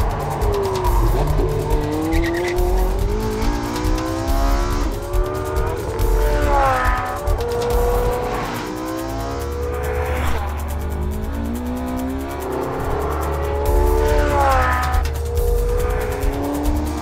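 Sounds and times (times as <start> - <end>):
car engine revving: 0.0 - 17.0
music: 0.0 - 17.0.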